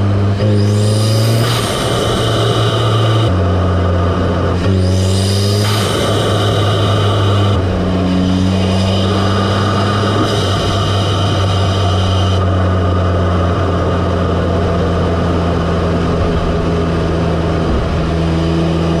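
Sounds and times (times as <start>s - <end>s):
car engine induction hum: 0.0s - 19.0s
turbo whine: 0.0s - 19.0s.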